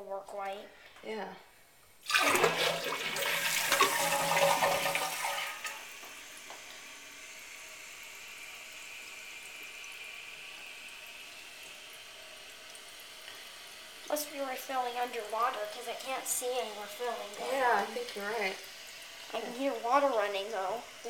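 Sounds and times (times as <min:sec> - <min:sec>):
toilet flushing: 0:02.0 - 0:21.0
toilet tank refilling hiss: 0:02.0 - 0:21.0.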